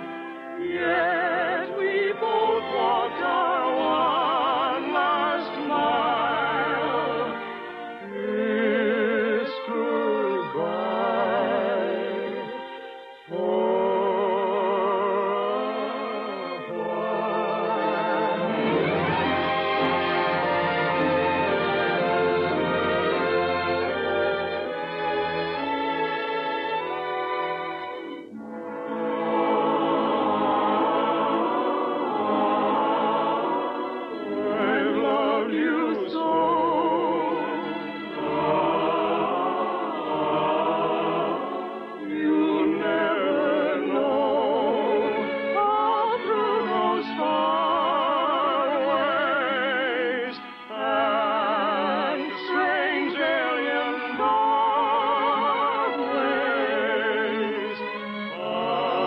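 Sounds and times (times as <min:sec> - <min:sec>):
classical singing with vibrato: 0:00.0 - 0:59.0
orchestra: 0:00.0 - 0:59.0.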